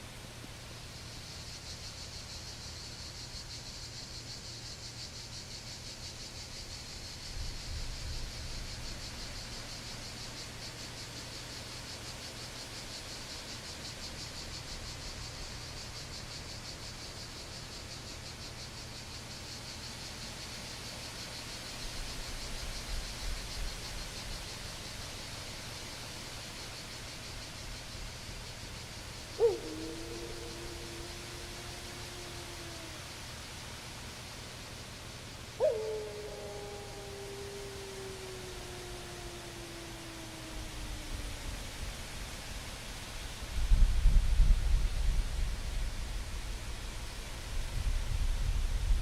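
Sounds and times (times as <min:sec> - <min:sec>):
cricket chorus chirring: 0:00.0 - 0:49.0.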